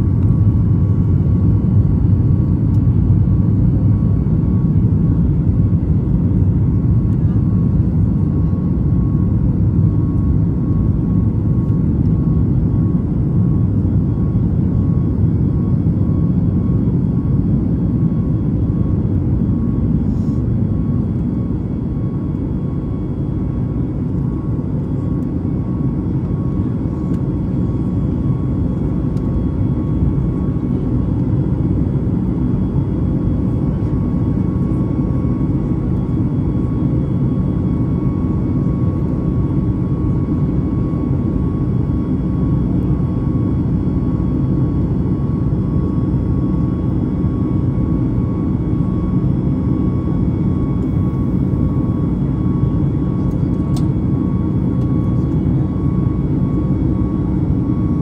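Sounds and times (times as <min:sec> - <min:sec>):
jet engines at climb power: 0:00.0 - 0:58.0.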